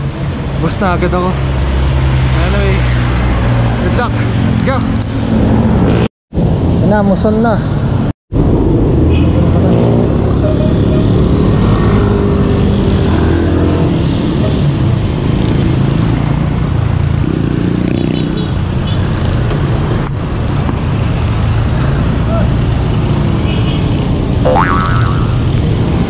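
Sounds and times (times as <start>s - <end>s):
cars and motorcycles passing: 0.0s - 26.0s.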